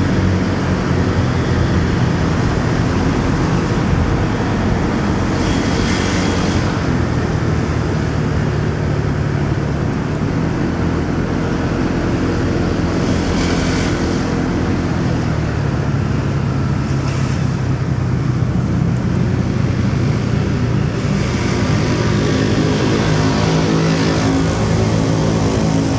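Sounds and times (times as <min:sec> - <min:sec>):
road and traffic noise: 0:00.0 - 0:25.9.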